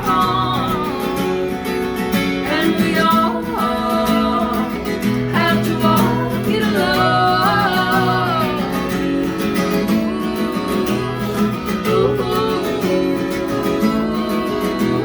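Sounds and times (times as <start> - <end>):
gliding melody line: 0.0 - 15.0
strummed acoustic guitar: 0.0 - 15.0.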